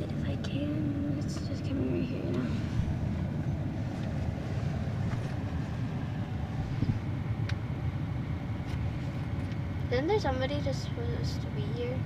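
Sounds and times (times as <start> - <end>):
car wash machinery rumbling: 0.0 - 12.0.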